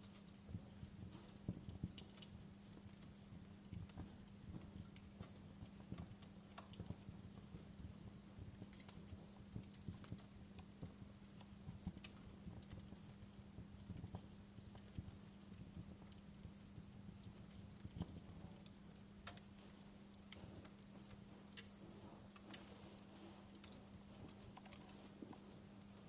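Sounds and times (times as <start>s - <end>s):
fire crackling and popping: 0.0s - 26.0s
low steady hum: 0.0s - 26.0s.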